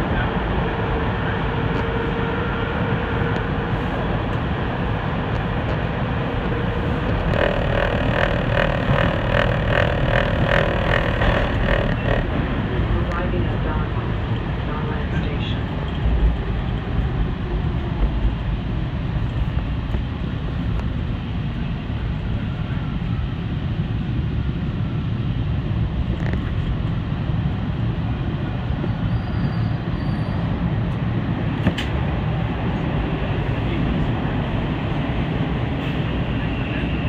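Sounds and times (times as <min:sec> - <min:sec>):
subway train rumble: 0:00.0 - 0:37.0.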